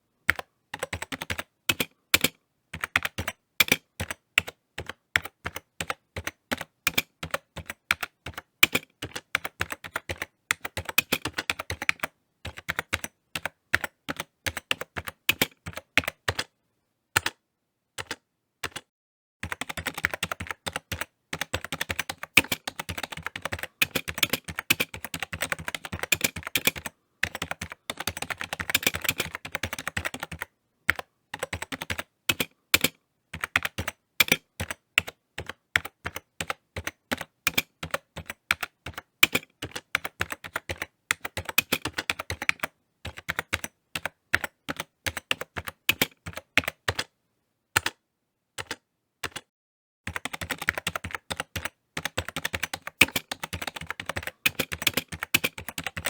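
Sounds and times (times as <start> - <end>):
computer keyboard typing: 0.3 - 16.5, 17.2 - 17.4, 18.0 - 47.1, 47.8 - 48.0, 48.6 - 49.5, 50.1 - 56.0.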